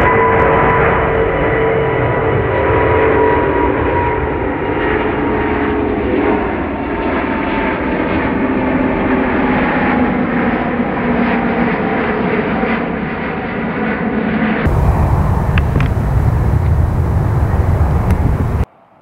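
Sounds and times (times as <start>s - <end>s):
jet engines roaring at takeoff: 0.0s - 19.0s.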